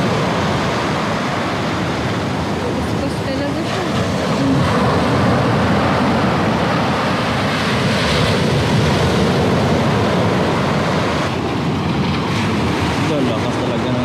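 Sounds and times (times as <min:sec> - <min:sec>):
waves breaking on shore: 0:00.0 - 0:14.0
wind on microphone: 0:00.0 - 0:14.0.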